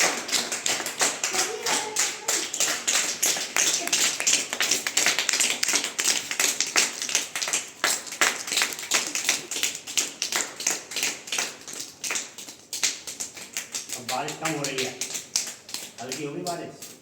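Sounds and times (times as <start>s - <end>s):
people tapping fingers on palms: 0.0s - 17.0s.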